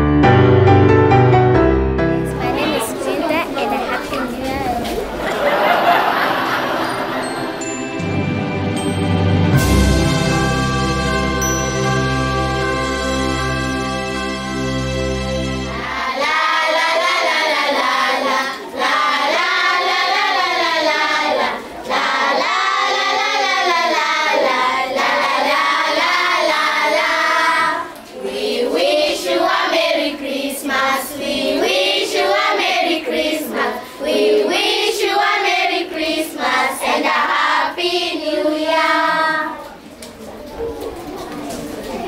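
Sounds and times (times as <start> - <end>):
children singing together: 2.3 - 8.1, 10.1 - 39.9.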